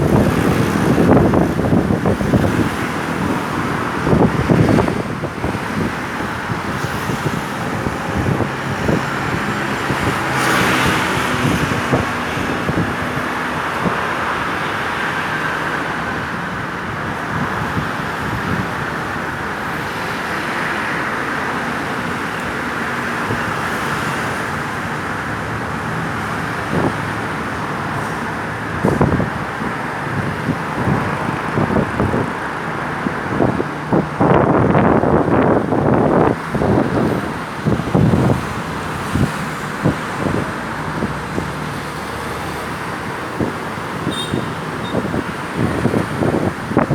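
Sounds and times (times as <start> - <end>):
road traffic: 0.0 - 46.9.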